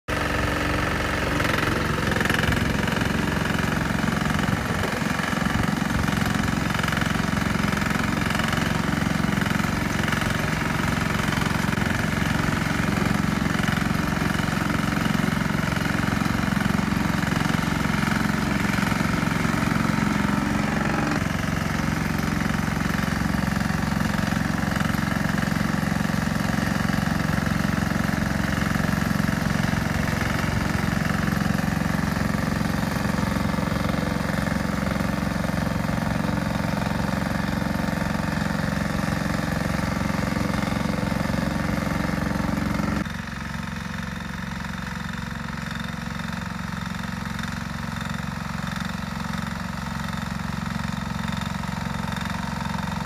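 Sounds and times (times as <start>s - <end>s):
rotary tiller churning soil: 0.1s - 53.0s
small engine running: 0.1s - 53.0s.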